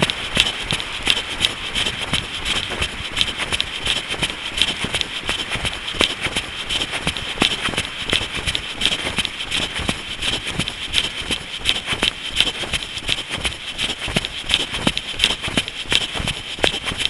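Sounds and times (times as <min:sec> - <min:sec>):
running footsteps on a path: 0:00.0 - 0:17.0.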